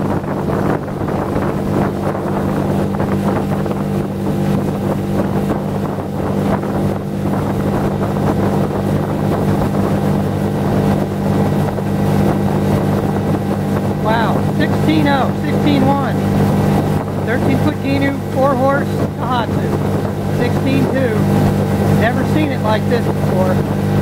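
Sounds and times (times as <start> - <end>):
outboard motor running: 0.0 - 24.0
wind buffeting microphone: 0.0 - 24.0.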